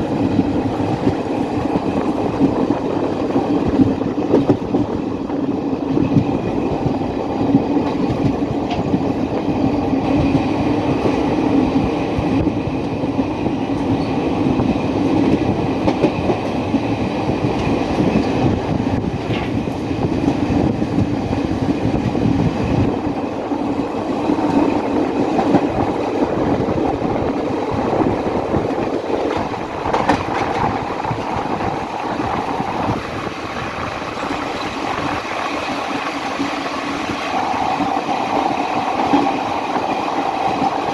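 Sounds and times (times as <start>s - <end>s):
train wheels clickety-clack: 0.0s - 40.9s
train wheels rumbling on rails: 0.0s - 40.9s.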